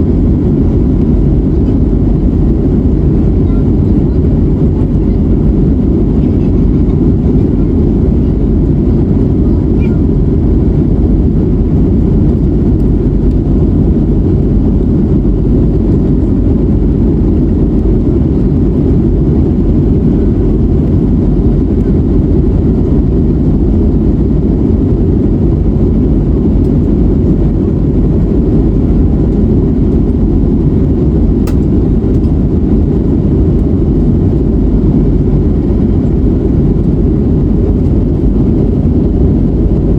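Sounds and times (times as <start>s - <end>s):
aircraft cabin engine roar: 0.0s - 39.9s.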